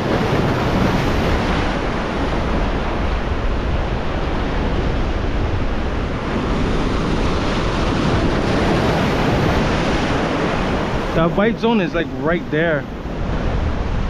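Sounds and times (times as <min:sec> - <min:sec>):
ocean surf washing ashore: 0:00.0 - 0:14.0
wind rumbling on microphone: 0:00.0 - 0:14.0.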